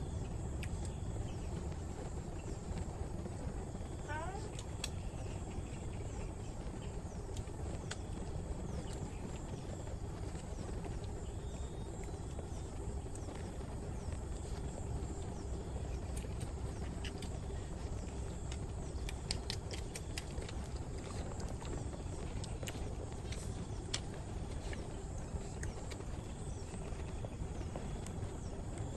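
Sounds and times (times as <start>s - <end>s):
low background rumble: 0.0s - 28.9s.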